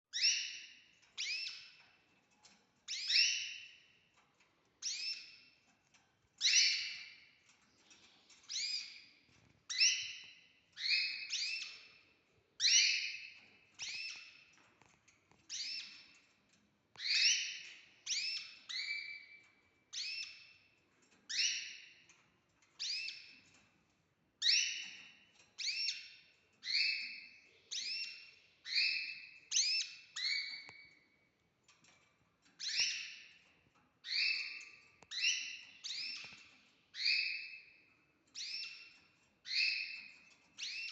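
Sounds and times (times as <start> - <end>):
bird chicks cheeping: 0.1 - 4.1, 4.8 - 5.7, 6.4 - 14.7, 16.9 - 22.2, 24.4 - 31.2, 32.6 - 40.9.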